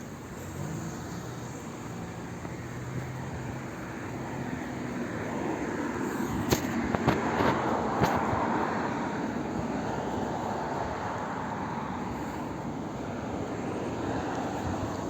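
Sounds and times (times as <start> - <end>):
vehicle approaching: 0.0 - 15.0.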